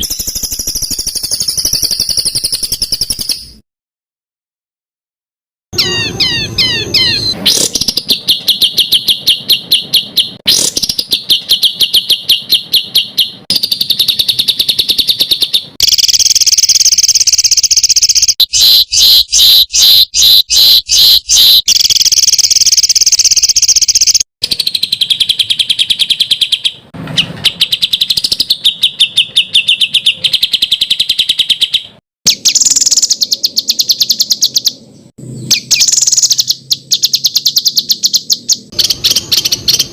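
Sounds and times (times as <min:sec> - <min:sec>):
songbird harsh trills: 0:05.8 - 0:39.9.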